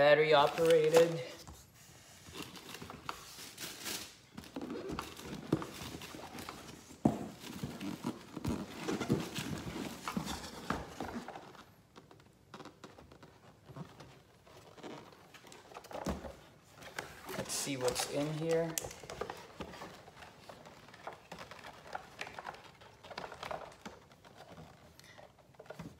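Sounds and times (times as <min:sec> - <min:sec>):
rummaging in cardboard box: 0:00.0 - 0:11.8, 0:13.6 - 0:25.9.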